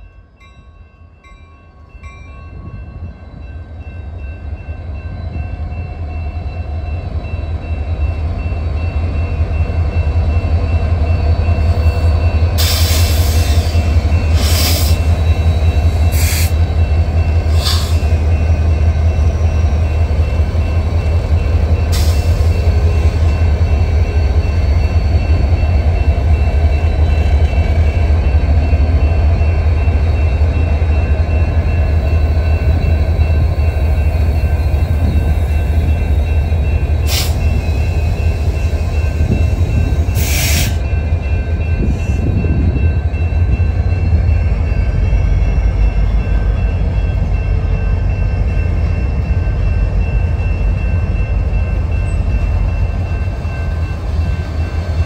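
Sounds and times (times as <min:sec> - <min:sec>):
locomotive engines rumbling: 0:01.3 - 0:55.0.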